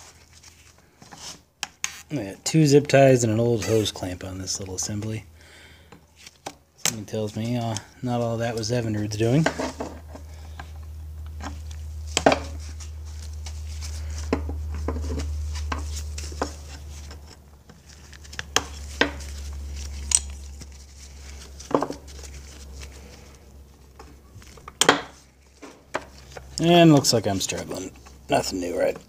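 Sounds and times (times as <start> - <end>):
steady low hum: 2.1 - 29.0.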